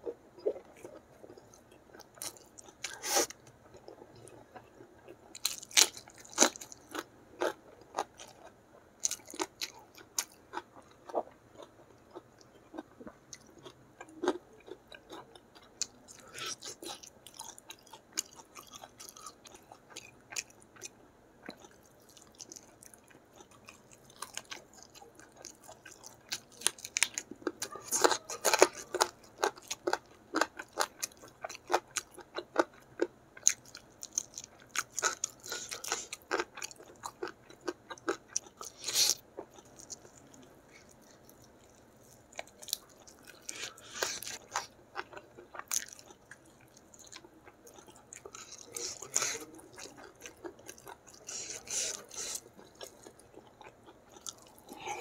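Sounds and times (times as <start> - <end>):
chewing and smacking: 3.6 - 55.0.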